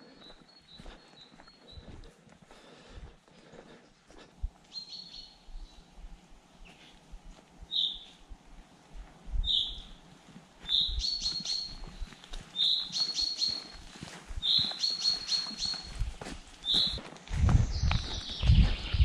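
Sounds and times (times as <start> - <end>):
songbird singing: 0.0 - 2.3, 4.6 - 19.0.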